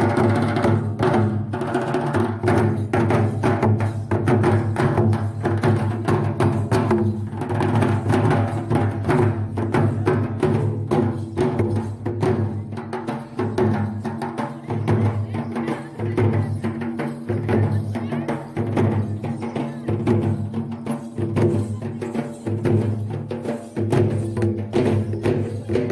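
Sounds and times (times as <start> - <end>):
music with rapid drumming: 0.0 - 25.9.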